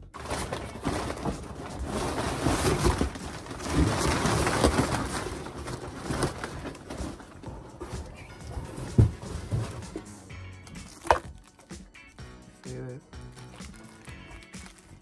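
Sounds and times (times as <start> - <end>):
paper packing rustling: 0.0 - 10.1, 10.7 - 11.7, 13.3 - 15.0.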